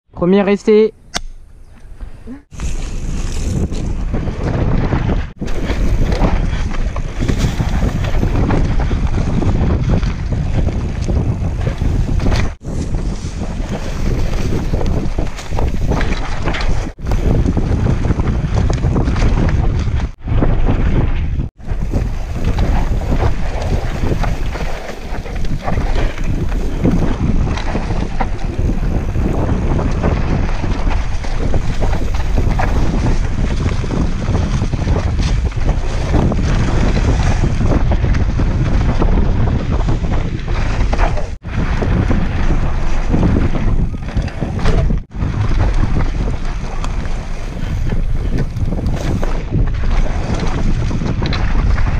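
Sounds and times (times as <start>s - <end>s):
bike trail noise: 0.2s - 51.9s
wind buffeting microphone: 1.5s - 51.9s.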